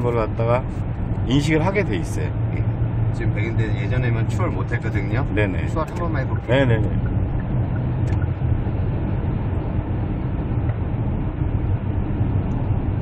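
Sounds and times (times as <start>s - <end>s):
car engine and road noise drone: 0.0s - 13.0s.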